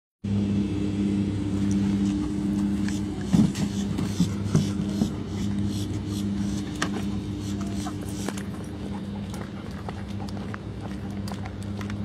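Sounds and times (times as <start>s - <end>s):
low machine hum: 0.2s - 12.0s.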